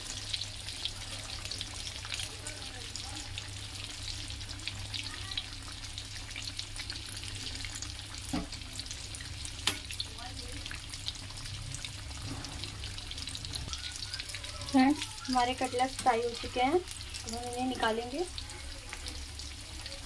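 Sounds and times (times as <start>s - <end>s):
food deep-frying in oil: 0.0s - 20.0s.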